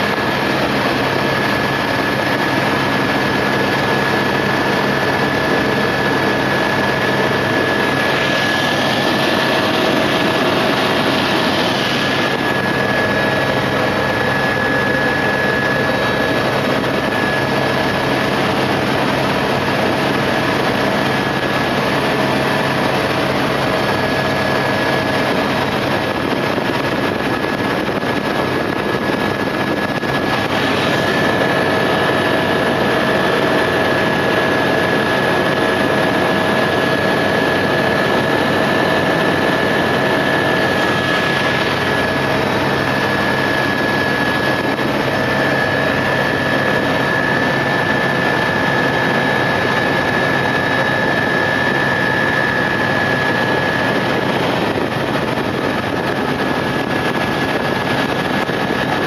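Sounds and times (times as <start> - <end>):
aircraft engine drone in cabin: 0.0 - 59.0
steady high whine: 0.0 - 59.0.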